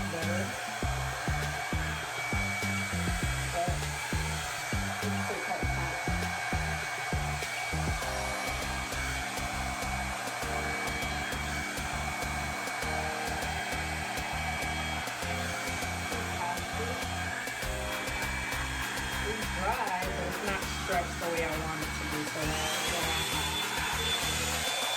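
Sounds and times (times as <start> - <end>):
hair dryer brush blowing: 0.0 - 24.9
music playing: 0.0 - 24.9.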